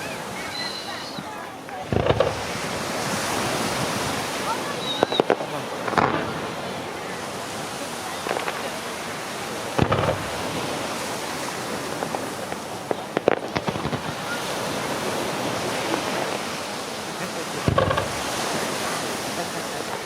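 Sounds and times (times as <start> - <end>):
fireworks bangs: 0.0 - 20.0
steady rushing hiss: 0.0 - 20.0
sharp fireworks cracks: 1.6 - 20.0.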